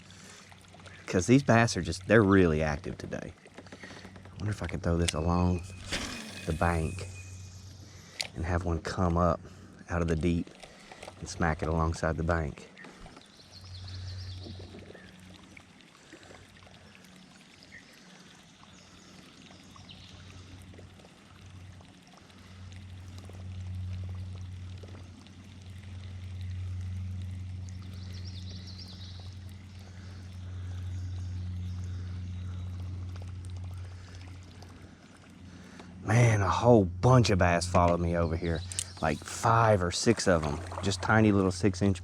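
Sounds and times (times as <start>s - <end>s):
river water running: 0.0s - 42.0s
steady low hum: 0.0s - 42.0s.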